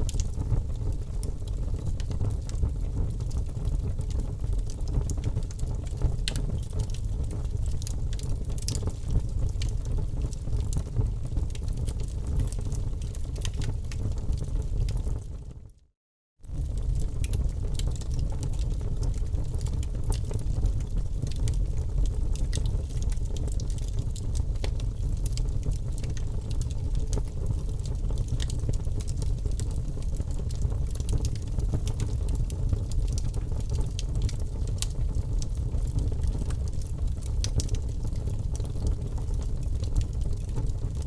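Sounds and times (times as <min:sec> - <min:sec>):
wood fire crackling: 0:02.0 - 0:15.3, 0:16.5 - 0:41.0.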